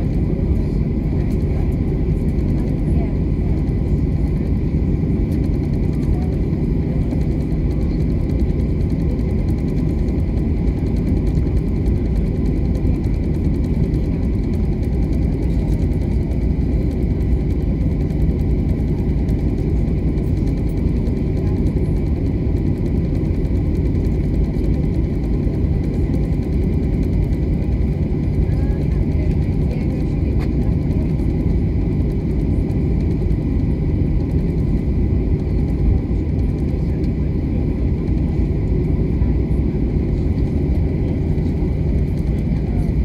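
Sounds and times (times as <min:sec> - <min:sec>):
jet engines rumbling: 0:00.0 - 0:43.0.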